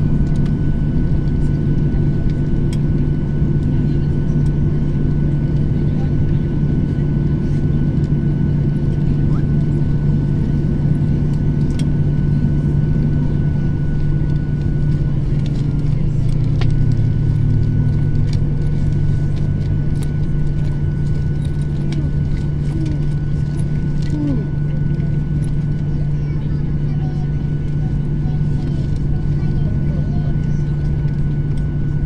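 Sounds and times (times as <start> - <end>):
high engine whine: 0.0 - 32.0
jet engines droning: 0.0 - 32.0.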